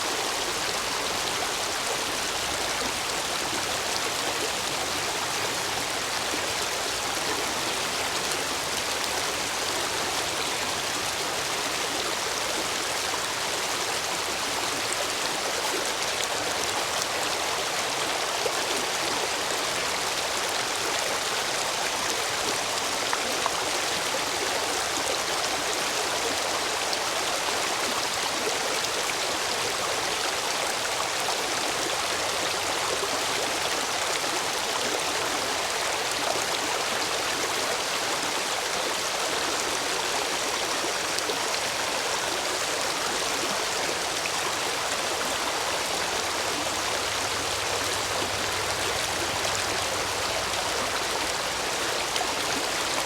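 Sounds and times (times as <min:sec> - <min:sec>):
stream water rushing over stones: 0:00.0 - 0:53.0.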